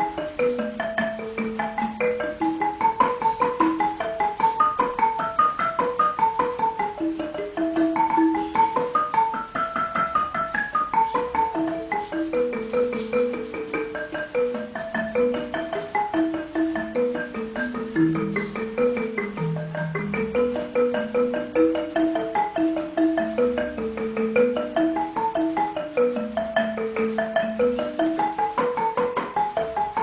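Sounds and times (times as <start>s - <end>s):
marimba-like melody: 0.0s - 30.0s.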